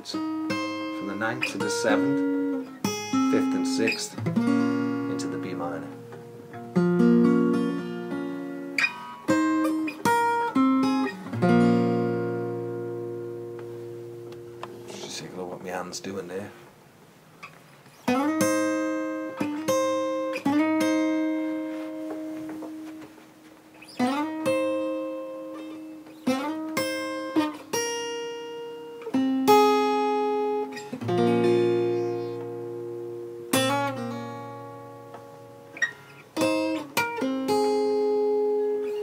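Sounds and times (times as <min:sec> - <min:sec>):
acoustic guitar picking chords: 0:00.0 - 0:39.0.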